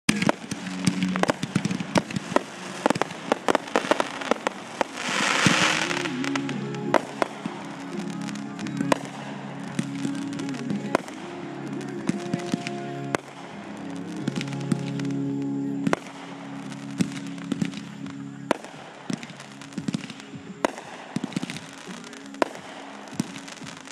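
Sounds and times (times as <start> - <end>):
fireworks popping and crackling: 0.1 - 23.9
music playing: 0.1 - 23.9.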